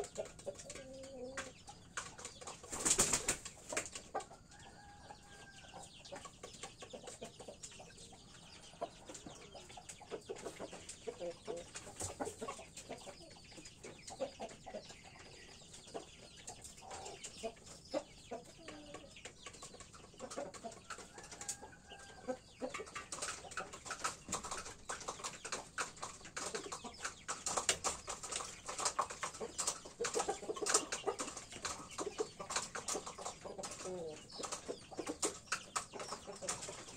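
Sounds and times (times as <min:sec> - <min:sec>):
roosters clucking softly: 0:00.0 - 0:36.9.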